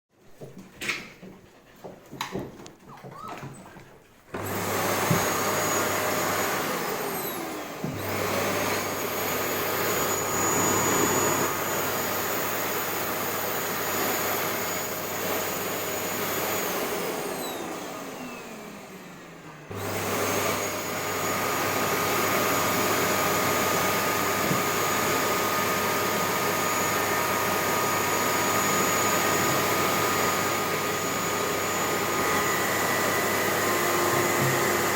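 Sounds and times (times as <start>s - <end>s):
vacuum cleaner running: 0.4s - 34.9s.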